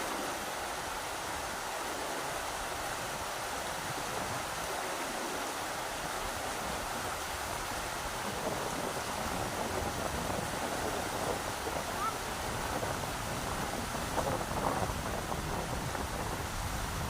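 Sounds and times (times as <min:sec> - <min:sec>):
river water rushing: 0:00.0 - 0:17.0
wind gusting against microphone: 0:00.0 - 0:17.0.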